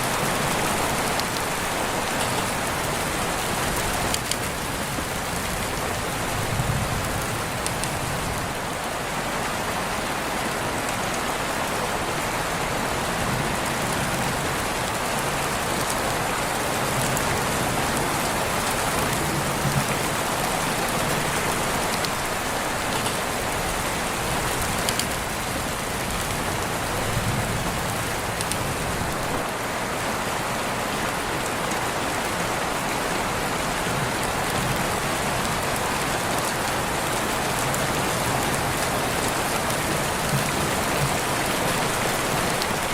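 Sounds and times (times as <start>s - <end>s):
rain pattering on surfaces: 0.0s - 42.9s.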